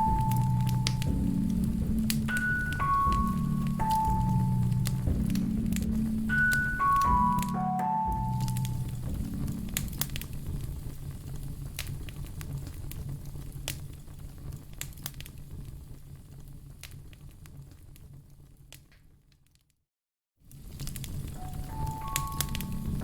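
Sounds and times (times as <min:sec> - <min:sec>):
low fire rumble: 0:00.0 - 0:19.3, 0:20.5 - 0:23.0
wood fire crackling: 0:00.0 - 0:19.6, 0:20.5 - 0:23.0.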